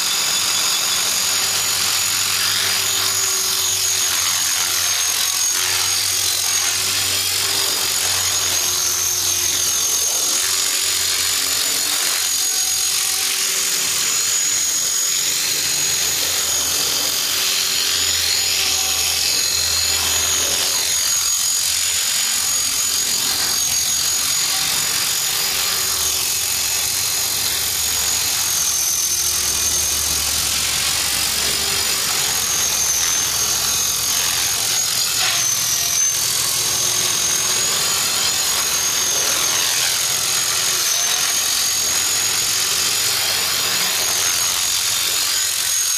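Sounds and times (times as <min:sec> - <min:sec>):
rc helicopter motor whine: 0:00.0 - 0:45.9
rotor buzz: 0:00.0 - 0:45.9.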